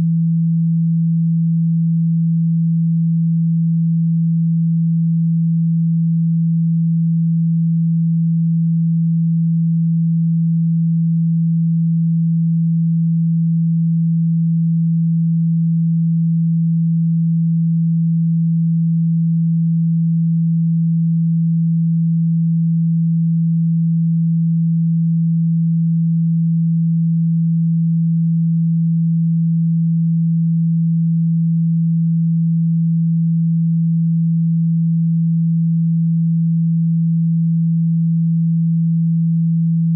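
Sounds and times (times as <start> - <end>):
low steady pure tone: 0.0 - 39.9.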